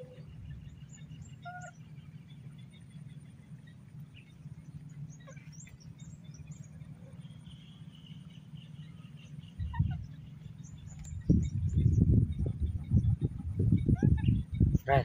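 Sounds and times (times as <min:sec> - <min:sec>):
small bird chirps: 0:00.0 - 0:14.9
low outdoor rumble: 0:00.0 - 0:15.0.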